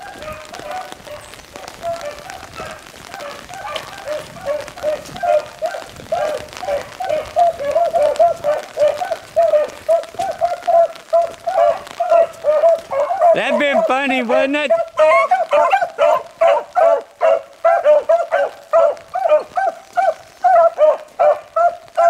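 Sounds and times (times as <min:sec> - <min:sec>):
dogs baying: 0:00.0 - 0:22.0.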